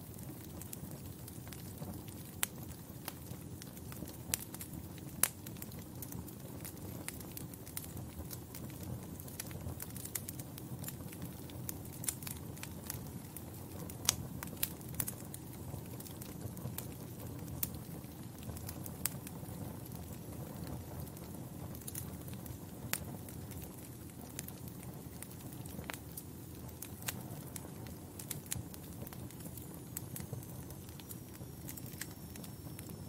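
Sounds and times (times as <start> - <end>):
fire pops and snaps: 0.0 - 33.0
fire rumbling: 0.0 - 33.0.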